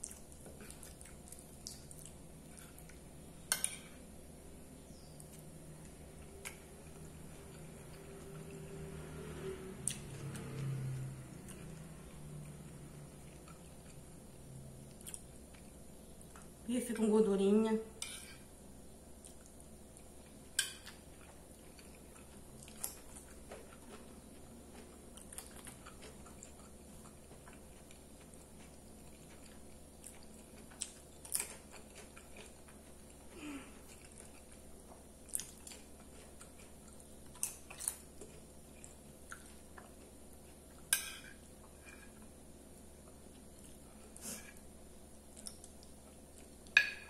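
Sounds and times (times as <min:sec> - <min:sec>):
person chewing food: 0:00.0 - 0:04.1, 0:09.8 - 0:14.2, 0:14.8 - 0:16.5, 0:19.1 - 0:46.9.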